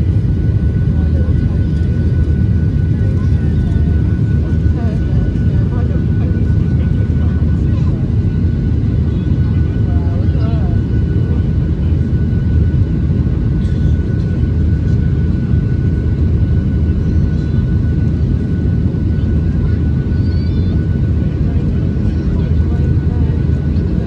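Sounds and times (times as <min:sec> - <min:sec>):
jet engines roaring in cabin: 0:00.0 - 0:24.0.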